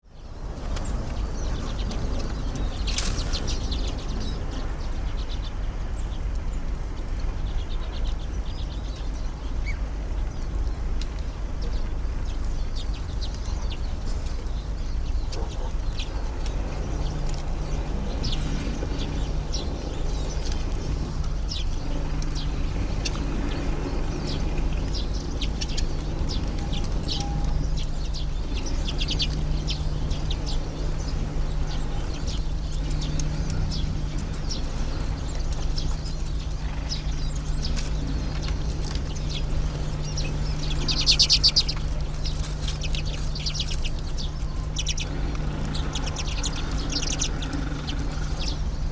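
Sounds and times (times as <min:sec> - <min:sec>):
small birds chirping: 0:00.0 - 0:48.9
steady low rumble: 0:00.0 - 0:48.9.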